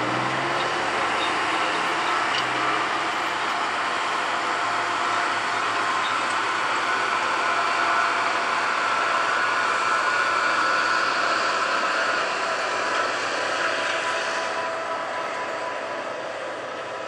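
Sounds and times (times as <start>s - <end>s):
diesel locomotive running: 0.0s - 17.0s
train wheels rumbling on rail: 0.0s - 17.0s.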